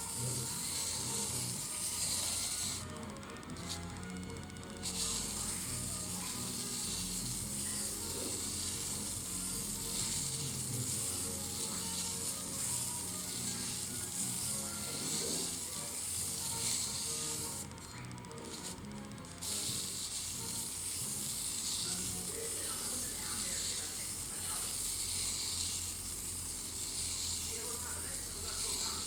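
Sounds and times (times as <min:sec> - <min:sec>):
background music: 0:00.0 - 0:23.6.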